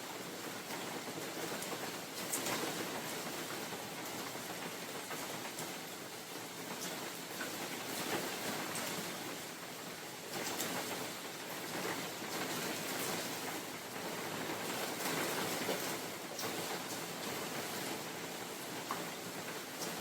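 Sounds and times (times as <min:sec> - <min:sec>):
rain falling in forest: 0:00.0 - 0:20.0.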